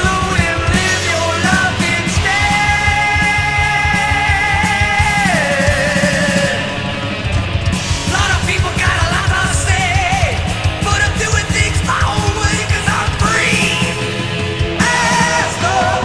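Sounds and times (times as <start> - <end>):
man singing: 0.0 - 7.0, 8.0 - 16.0
heavy metal band playing: 0.0 - 16.0.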